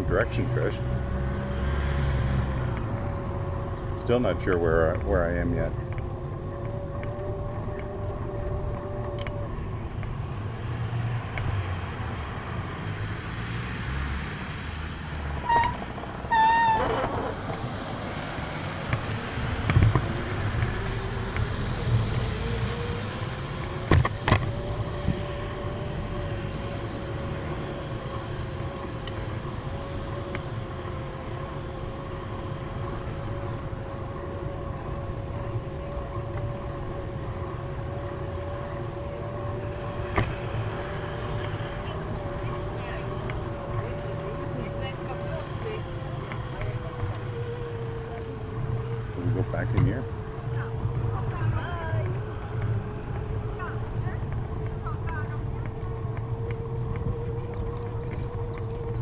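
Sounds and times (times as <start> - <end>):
wind: 0.0 - 59.0.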